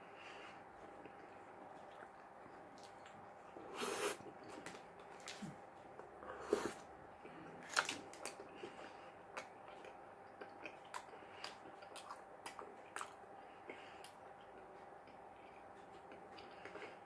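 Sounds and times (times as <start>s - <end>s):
faint steady hum: 0.0s - 17.0s
person chewing: 0.8s - 17.0s.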